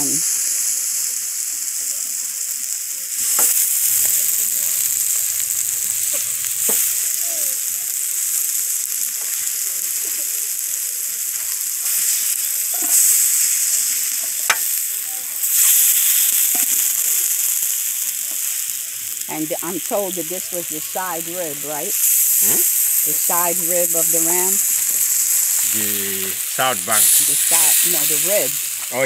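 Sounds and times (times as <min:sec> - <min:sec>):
ribs sizzling on grill: 0:00.0 - 0:29.0.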